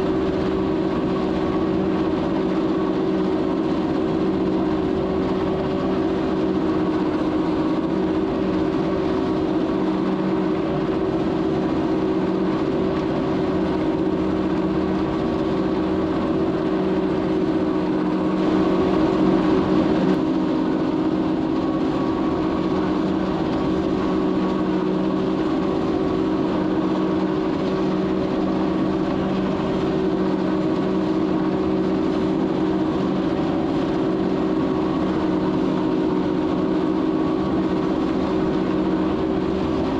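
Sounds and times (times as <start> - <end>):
tractor engine drone: 0.0 - 39.9.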